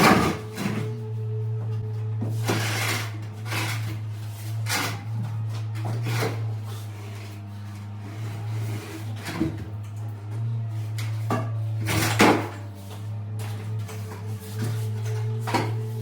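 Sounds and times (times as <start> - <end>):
knocks and scrapes: 0.0 - 16.0
low hum: 0.0 - 16.0.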